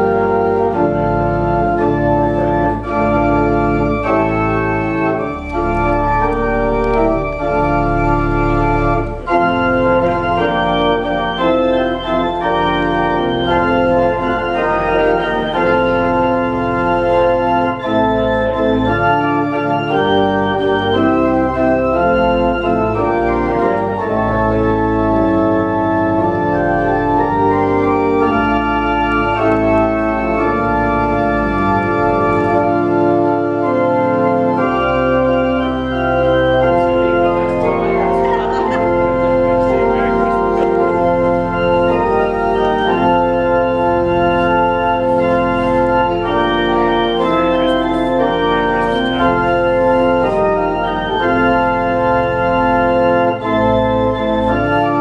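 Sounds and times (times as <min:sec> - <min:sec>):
church organ playing chords: 0:00.0 - 0:55.0.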